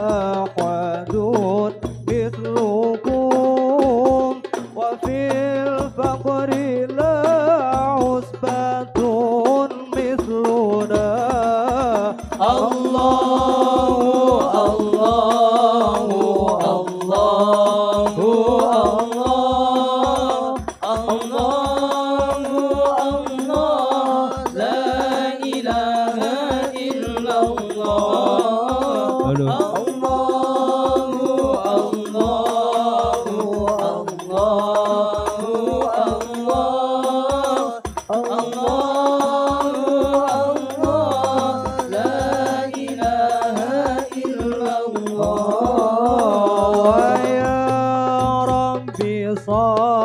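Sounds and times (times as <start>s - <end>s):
frame drums: 0.0s - 50.0s
low drum beating steadily: 0.0s - 50.0s
men singing devotional song: 0.0s - 50.0s.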